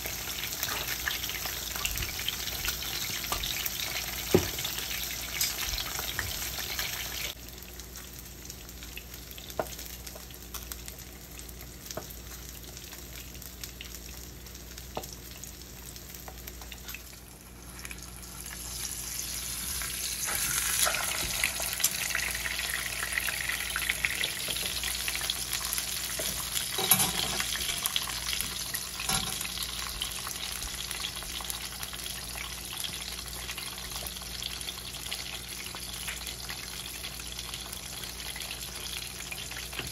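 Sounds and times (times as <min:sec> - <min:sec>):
fish sizzling in a pan: 0:00.0 - 0:39.9.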